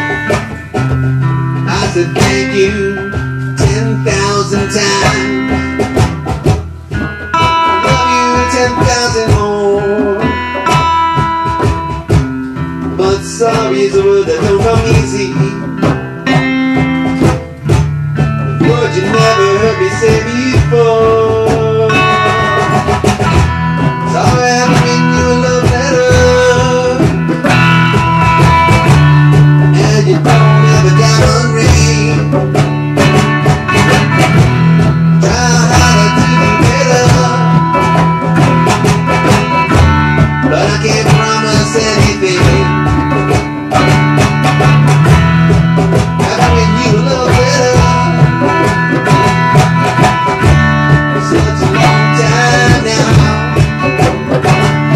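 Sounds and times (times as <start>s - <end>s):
acoustic guitar strumming: 0.0s - 54.9s
djembe hand drum beats: 0.0s - 54.9s.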